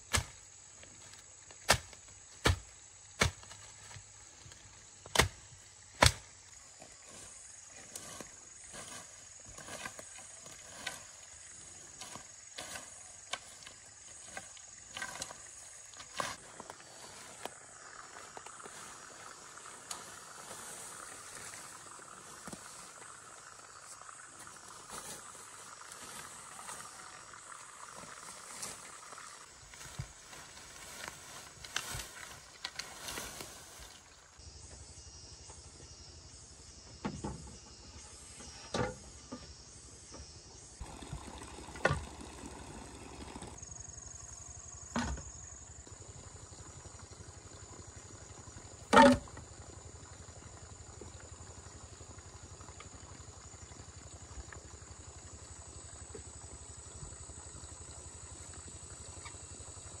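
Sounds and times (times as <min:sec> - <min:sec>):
insects droning: 0:00.0 - 1:00.0.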